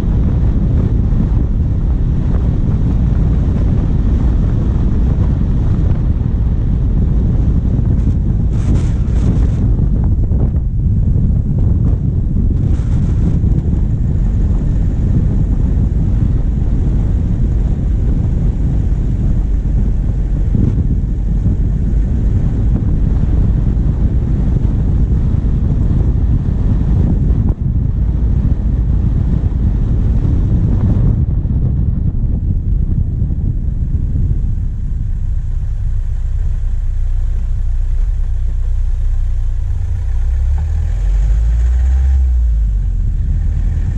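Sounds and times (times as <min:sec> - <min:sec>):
diesel engine running: 0:00.0 - 0:43.9
wind buffeting microphone: 0:00.0 - 0:43.9.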